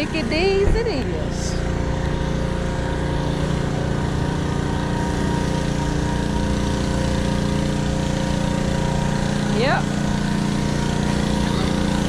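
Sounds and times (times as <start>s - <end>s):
machine motor drone: 0.0s - 12.0s.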